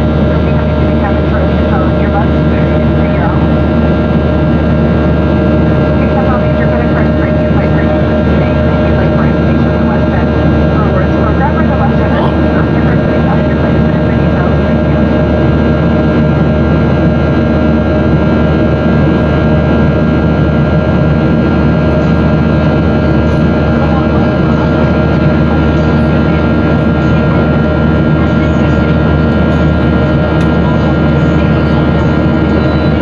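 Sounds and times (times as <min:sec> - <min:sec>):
airflow rush in cabin: 0:00.0 - 0:33.0
constant whining tones: 0:00.0 - 0:33.0
jet engine noise: 0:00.0 - 0:33.0.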